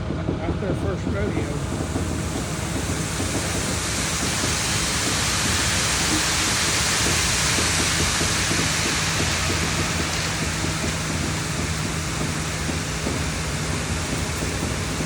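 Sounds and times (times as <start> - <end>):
heavy machinery engine running: 0.0 - 15.0
broad rushing hiss: 0.9 - 15.0.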